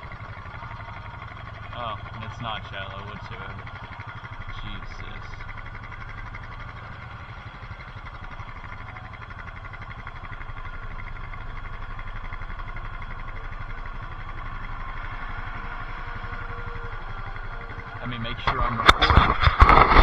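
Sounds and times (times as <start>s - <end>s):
motorbike engine idling: 0.0s - 20.0s.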